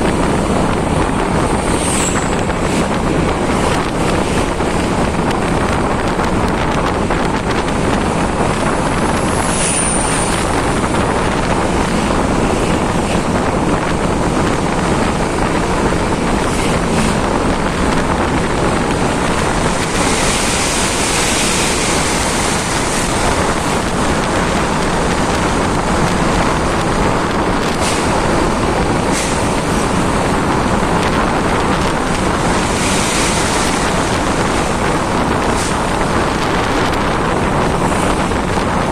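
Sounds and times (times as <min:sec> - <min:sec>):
road and traffic noise: 0:00.0 - 0:38.9
wind rushing over microphone: 0:00.0 - 0:38.9.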